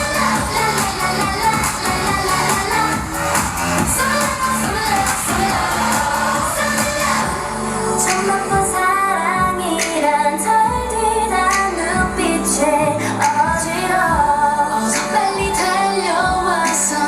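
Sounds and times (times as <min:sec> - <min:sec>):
dance-pop song with female vocals: 0:00.0 - 0:17.0.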